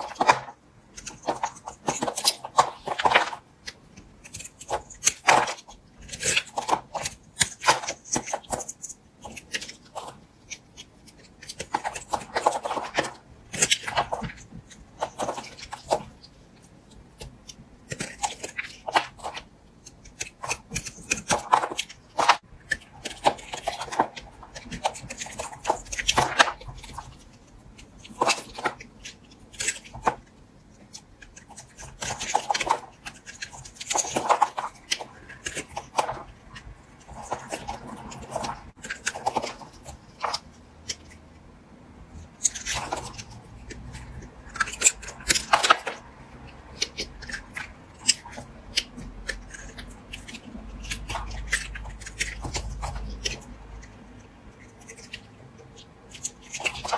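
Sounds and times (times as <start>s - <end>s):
knife cutting soap: 0.0s - 41.4s, 42.2s - 56.9s.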